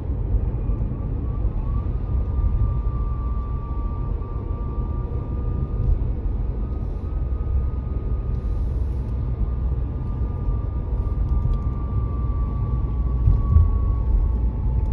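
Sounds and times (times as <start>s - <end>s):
car engine low rumble: 0.0s - 14.9s
steady high whine: 0.0s - 14.9s.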